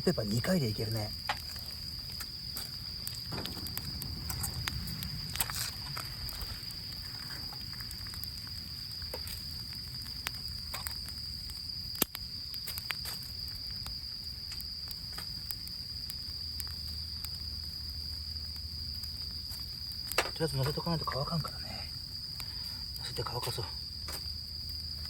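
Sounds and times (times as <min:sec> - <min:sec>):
campfire crackling and popping: 0:00.0 - 0:25.0
insect trill: 0:00.0 - 0:25.0.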